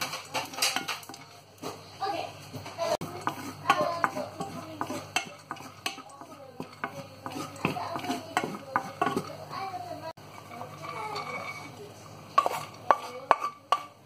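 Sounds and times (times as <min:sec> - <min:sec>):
spatula scraping a pan: 0:00.0 - 0:14.0.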